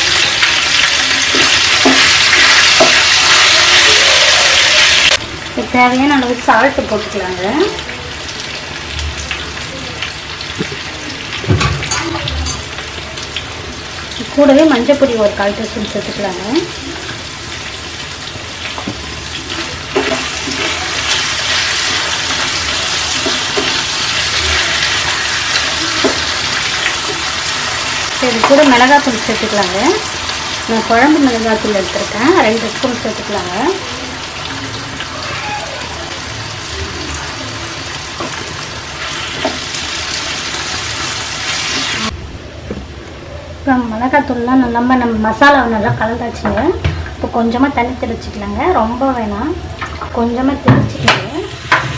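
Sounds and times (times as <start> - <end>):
banana slices sizzling in oil: 0.0 - 42.2, 44.8 - 51.9.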